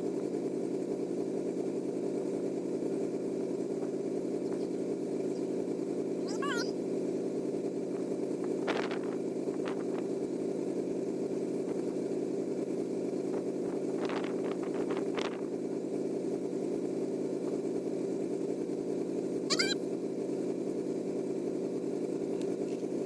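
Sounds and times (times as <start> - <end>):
truck engine idling: 0.0 - 23.0
radiator fans humming: 0.1 - 23.0.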